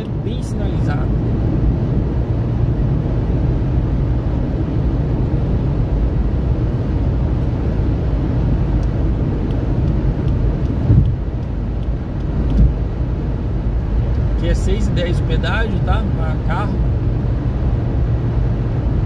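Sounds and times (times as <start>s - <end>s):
car tyres and engine rumbling: 0.0s - 19.0s.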